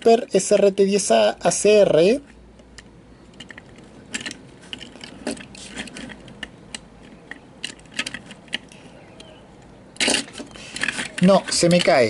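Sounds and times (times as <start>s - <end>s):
toy car clicking against toy truck: 1.8s - 12.0s.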